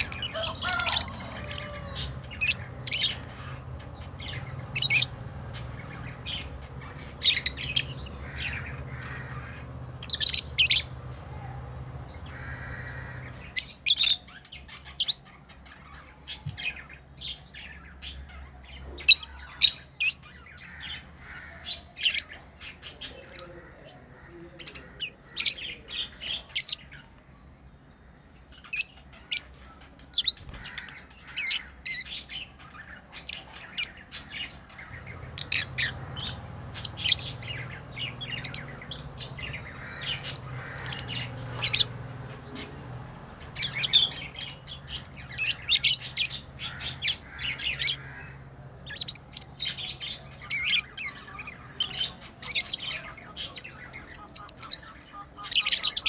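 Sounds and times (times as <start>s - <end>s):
lovebirds chirping and squawking: 0.0s - 56.0s.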